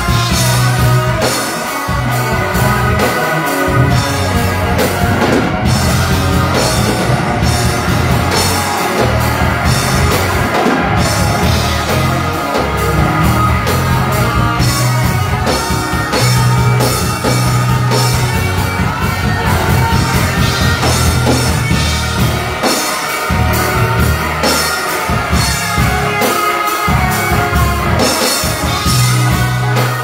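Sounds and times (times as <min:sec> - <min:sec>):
upbeat gospel rock music: 0:00.0 - 0:30.0.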